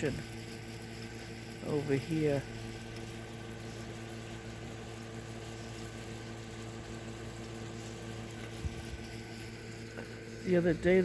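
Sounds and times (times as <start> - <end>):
machine hum with steady tones: 0.0 - 11.0.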